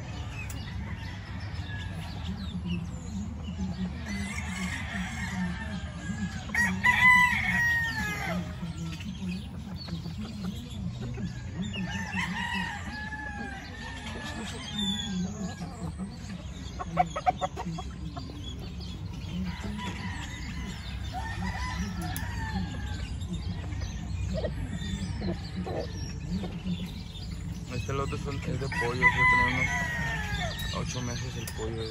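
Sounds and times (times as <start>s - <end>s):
chickens clucking: 0.0s - 31.9s
roosters crowing: 0.0s - 31.9s.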